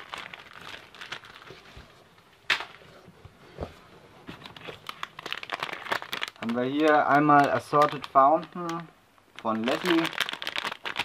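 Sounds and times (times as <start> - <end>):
plastic wrapping rustling: 0.0 - 11.0.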